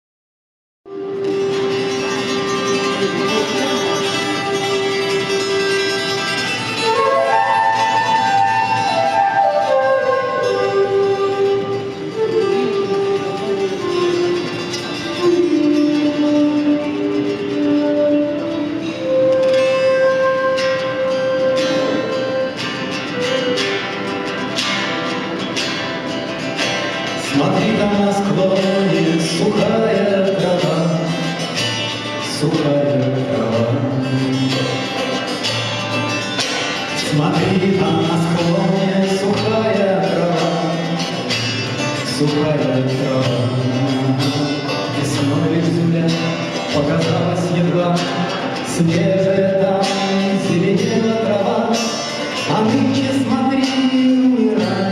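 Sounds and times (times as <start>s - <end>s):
folk-rock band playing: 0.9s - 54.9s.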